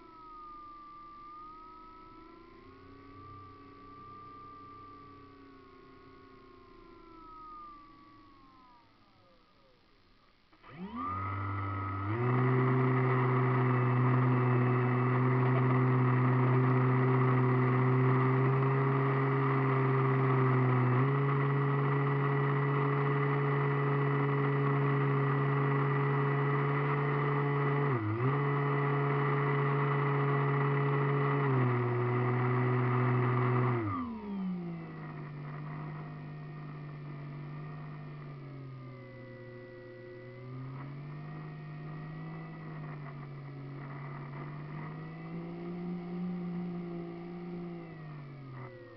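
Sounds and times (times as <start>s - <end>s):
model airplane motor and propeller: 0.0s - 48.9s.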